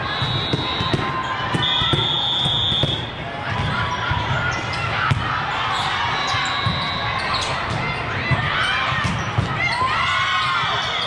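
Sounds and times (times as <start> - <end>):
din of crowded hall: 0.0 - 11.0.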